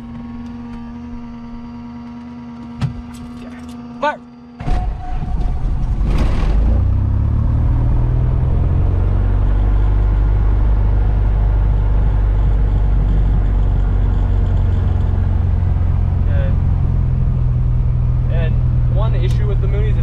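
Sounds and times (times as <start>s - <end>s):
aircraft engine starting and idling: 0.0s - 20.0s.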